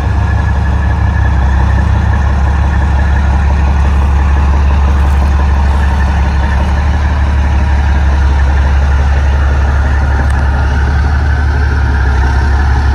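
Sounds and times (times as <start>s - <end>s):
large engine idling: 0.0s - 12.9s.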